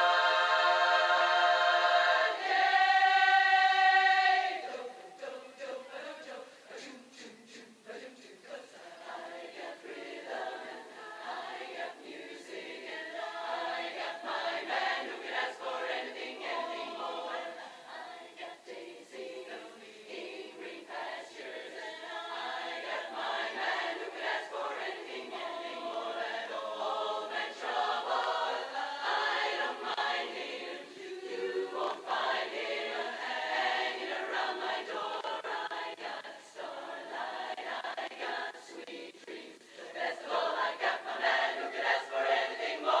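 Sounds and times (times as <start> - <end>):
women's chorus singing a cappella: 0.0 - 43.0.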